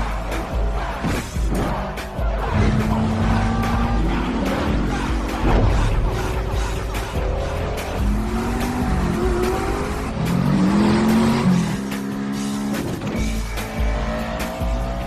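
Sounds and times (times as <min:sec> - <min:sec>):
music soundtrack: 0:00.0 - 0:15.0
sports car engines accelerating: 0:00.0 - 0:15.0.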